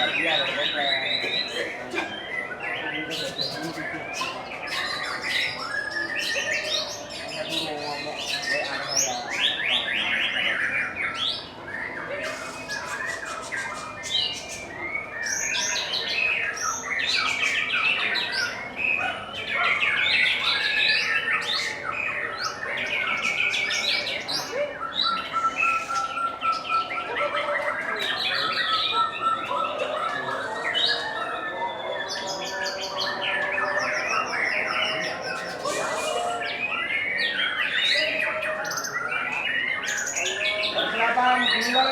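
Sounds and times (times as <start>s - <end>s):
songbirds trilling and chirping: 0.0s - 41.9s.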